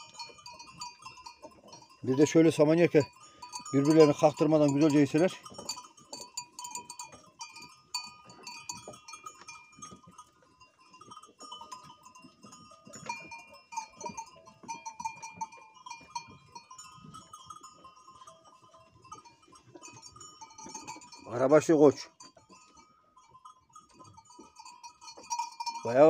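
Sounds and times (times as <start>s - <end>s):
sheep bells jingling: 0.0s - 26.0s.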